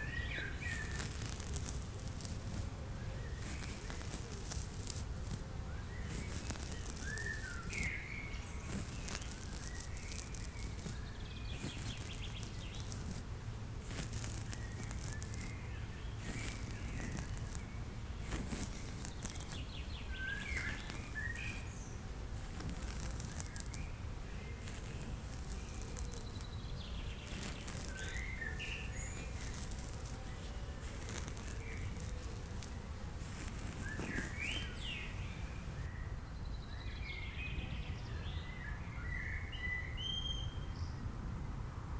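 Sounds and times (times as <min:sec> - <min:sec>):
birds chirping: 0:00.0 - 0:35.9
scratchy bursts of noise: 0:00.0 - 0:35.9.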